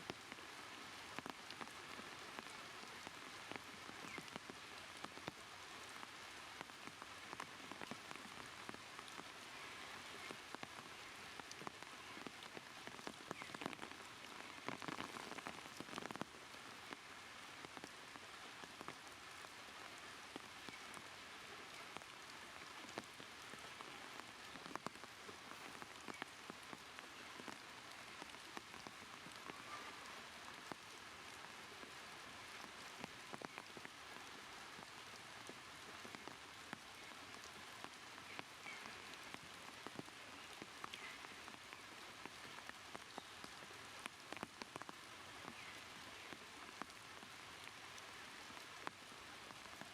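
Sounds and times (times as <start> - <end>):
rain hiss: 0.0 - 49.9
rain ticks: 0.0 - 49.9.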